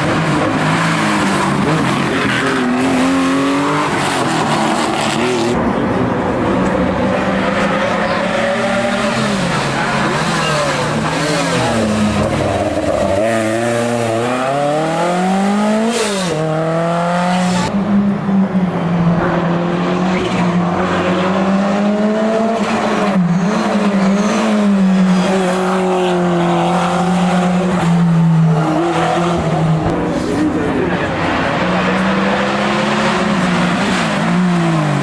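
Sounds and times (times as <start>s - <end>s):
rally car engine accelerating: 0.0s - 35.0s.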